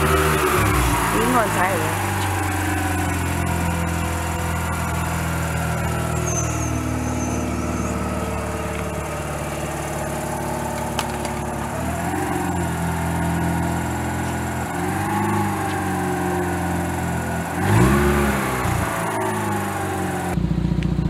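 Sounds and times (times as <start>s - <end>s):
rotary engine idling: 0.0s - 21.0s.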